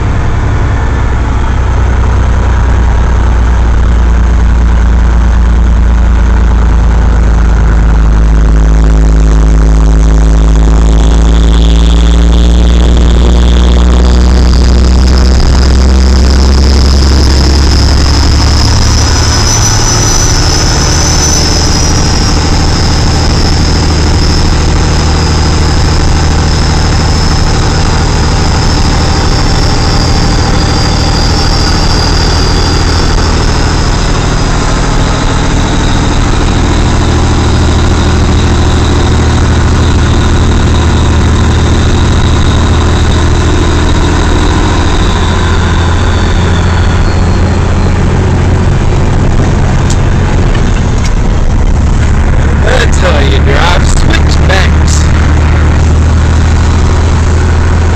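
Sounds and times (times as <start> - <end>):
thin high whine: 0.0 - 57.9
truck diesel engine running: 0.0 - 57.9.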